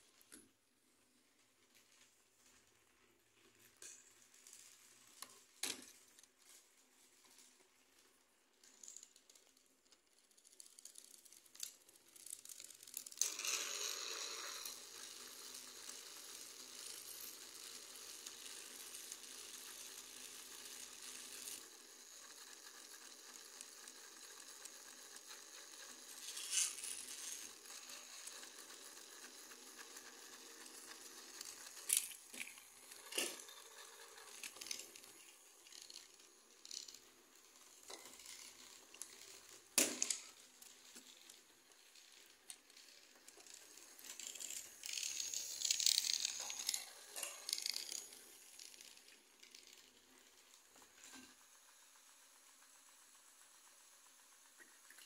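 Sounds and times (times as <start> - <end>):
toy trains clicking on plastic track: 1.8 - 55.0.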